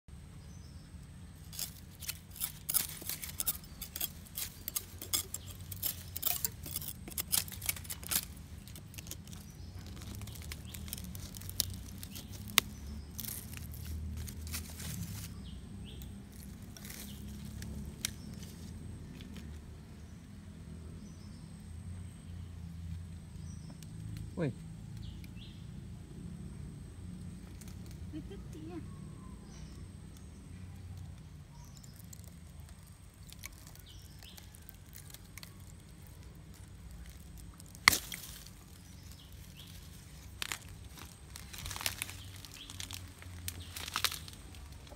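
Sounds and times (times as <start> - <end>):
dry leaves crackling and rustling: 1.3 - 19.8, 27.2 - 44.9.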